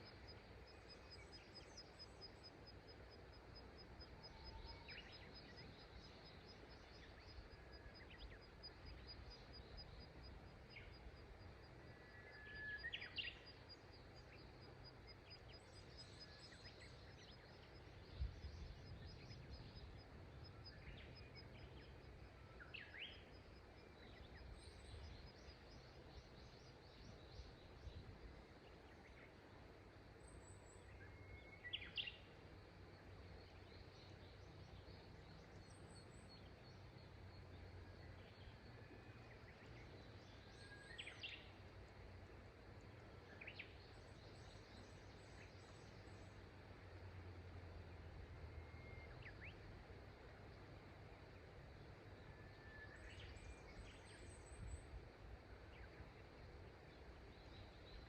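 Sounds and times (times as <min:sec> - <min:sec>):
outdoor background hiss: 0:00.0 - 0:58.0
wild birdsong: 0:00.0 - 0:58.0.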